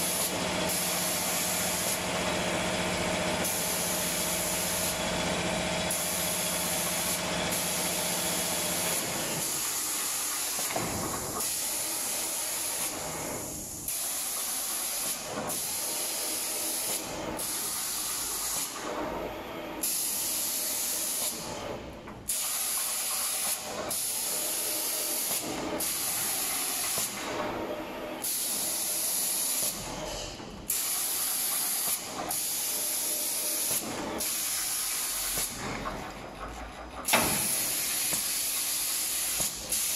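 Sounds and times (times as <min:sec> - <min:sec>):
air spray guns hissing: 0:00.0 - 0:02.2, 0:03.4 - 0:05.1, 0:05.9 - 0:18.9, 0:19.8 - 0:21.7, 0:22.3 - 0:27.4, 0:28.2 - 0:35.6, 0:37.0 - 0:39.9.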